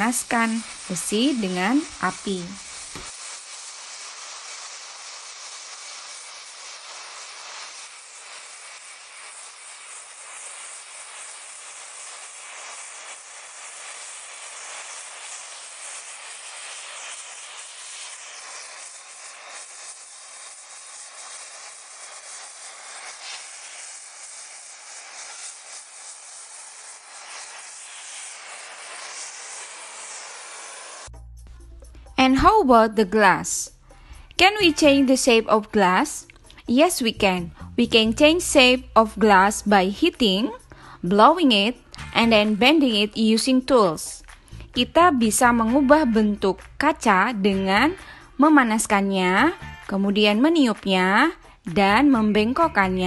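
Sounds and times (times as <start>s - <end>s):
gas torch flame hissing: 0.0s - 53.0s.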